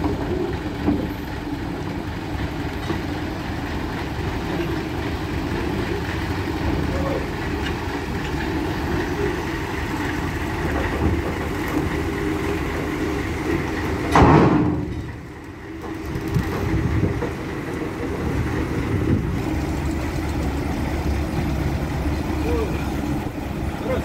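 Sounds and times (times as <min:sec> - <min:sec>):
heavy truck diesel engine running: 0:00.0 - 0:24.0.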